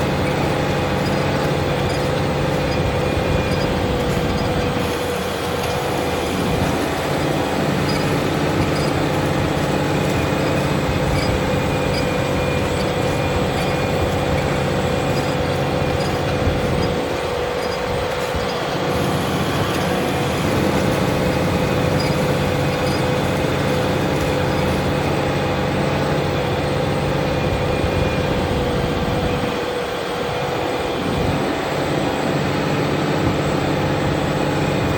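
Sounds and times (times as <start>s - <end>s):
steady whine: 0.0s - 31.5s
tractor engine under load: 0.0s - 34.9s.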